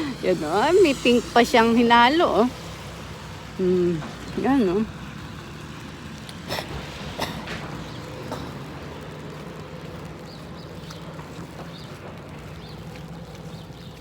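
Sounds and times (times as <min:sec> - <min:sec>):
traffic hum: 0:00.0 - 0:14.0.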